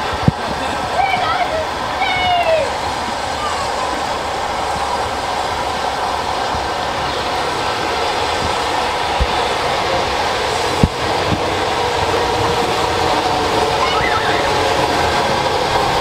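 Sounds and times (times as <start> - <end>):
steam train running: 0.0 - 16.0.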